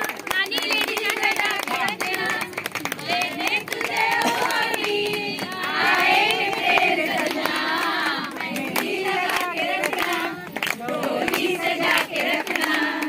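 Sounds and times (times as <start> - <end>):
hand claps: 0.0 - 13.0
women singing together: 0.0 - 13.0.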